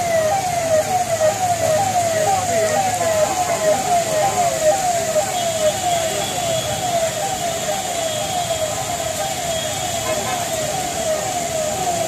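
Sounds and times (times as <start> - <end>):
heavy rain hissing: 0.1 - 12.0.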